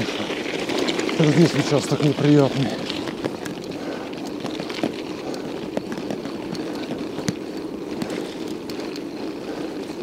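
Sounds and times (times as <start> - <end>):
bike clicks and knocks: 0.0 - 10.0
bike tyres rumbling on rough road: 0.0 - 10.0.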